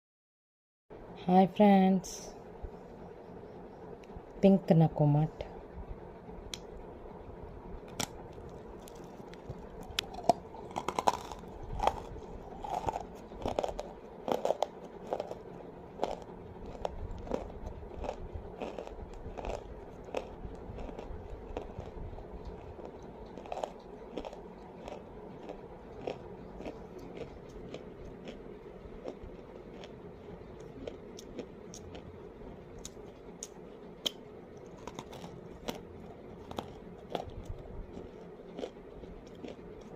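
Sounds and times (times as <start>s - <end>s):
clay being bitten and chewed: 7.9s - 39.9s.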